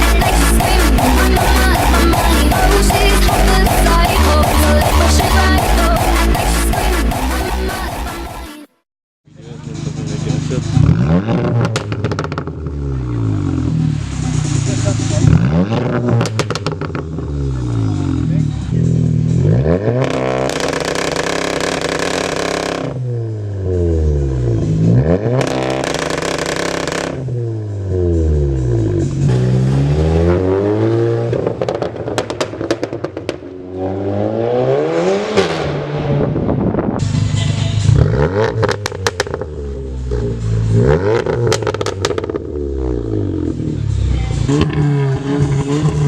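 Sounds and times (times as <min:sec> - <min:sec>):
car exhaust revving: 0:00.0 - 0:08.3, 0:09.4 - 0:46.0.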